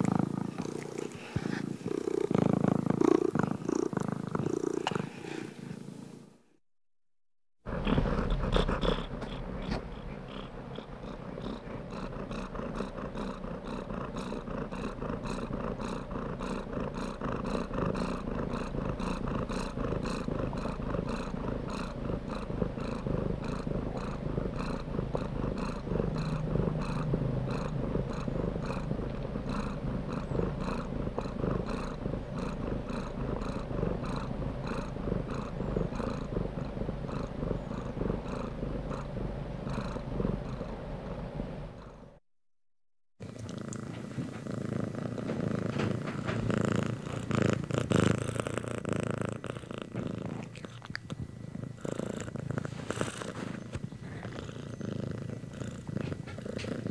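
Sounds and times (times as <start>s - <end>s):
cat purring: 0.0s - 6.3s, 7.7s - 42.2s, 43.2s - 56.9s.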